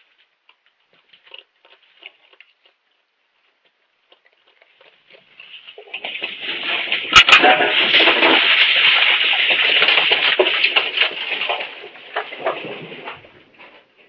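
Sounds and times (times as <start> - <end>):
raccoons eating from bowls: 0.0 - 14.0.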